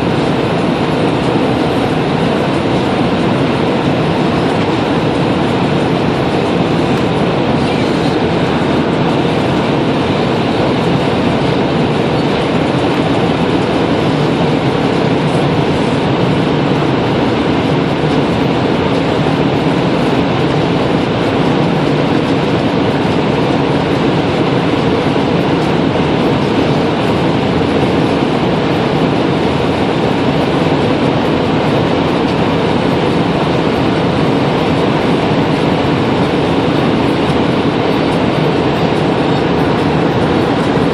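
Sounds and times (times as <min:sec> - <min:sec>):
engine road and wind noise: 0:00.0 - 0:40.9.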